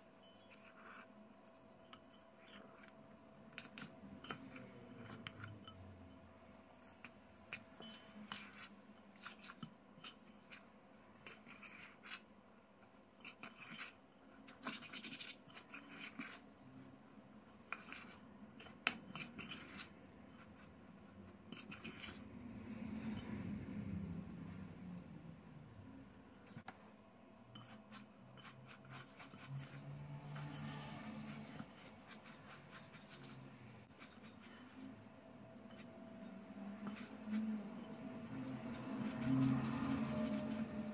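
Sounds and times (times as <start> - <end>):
spoon scraping glass bowl: 0.0 - 12.3, 13.0 - 25.4, 27.5 - 40.9
dough mixing scraping and rubbing: 0.0 - 25.2, 26.0 - 40.9.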